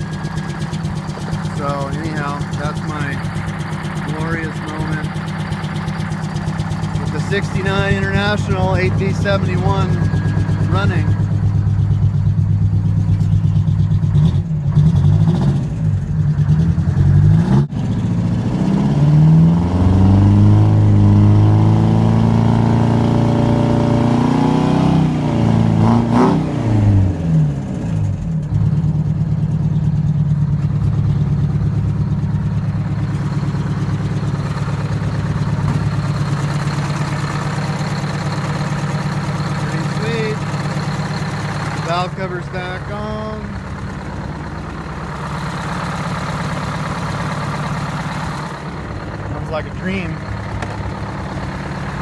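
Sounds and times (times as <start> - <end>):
diesel engine revving and idling: 0.0 - 52.0.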